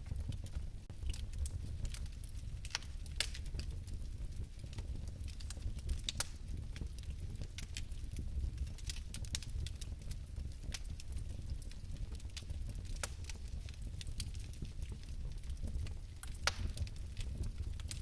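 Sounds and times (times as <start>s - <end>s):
flame burning with crackles: 0.0s - 18.0s.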